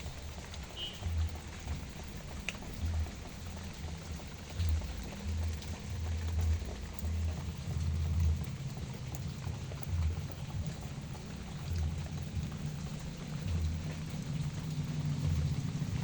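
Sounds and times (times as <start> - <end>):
rain falling on plants: 0.0 - 16.0.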